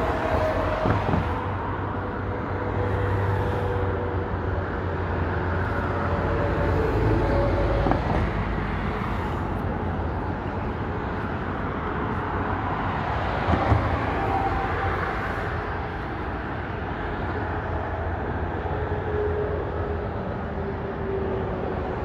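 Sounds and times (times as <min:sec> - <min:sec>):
highway traffic: 0:00.0 - 0:22.0.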